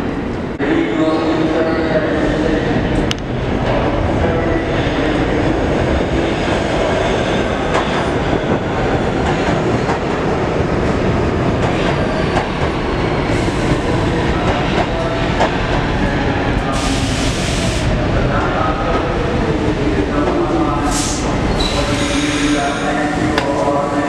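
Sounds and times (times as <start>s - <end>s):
subway train rumble: 0.0s - 24.0s.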